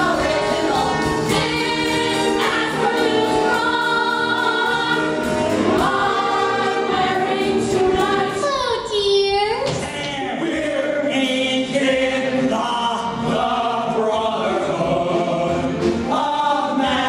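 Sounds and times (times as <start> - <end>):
women's chorus singing in harmony: 0.0 - 8.4, 10.3 - 17.0
musical accompaniment: 0.0 - 17.0.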